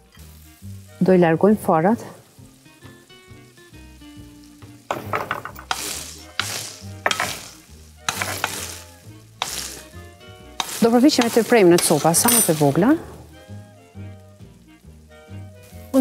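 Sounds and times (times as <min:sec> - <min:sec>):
asparagus sizzling in frying pan: 0:00.0 - 0:16.0
faint background music: 0:00.0 - 0:16.0.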